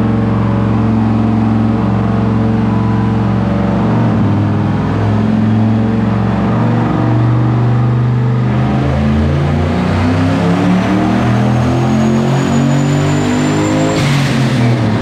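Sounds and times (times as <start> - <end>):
car engine running loud: 0.0 - 15.0.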